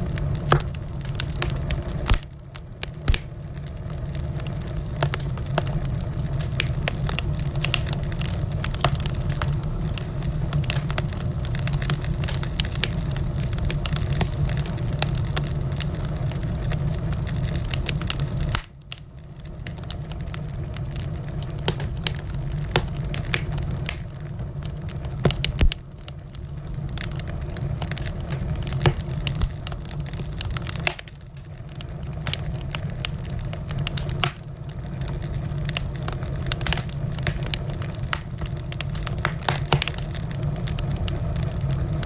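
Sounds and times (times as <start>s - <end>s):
low fire rumble: 0.0s - 42.0s
wood fire crackling and popping: 0.0s - 42.0s.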